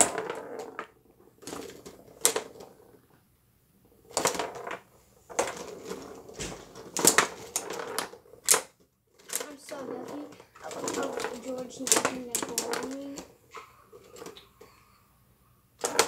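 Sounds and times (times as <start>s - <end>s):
foosball ball clattering: 0.0s - 3.1s, 4.0s - 14.7s, 15.8s - 16.0s
foosball rods knocking: 0.0s - 3.1s, 4.0s - 14.6s, 15.8s - 16.0s.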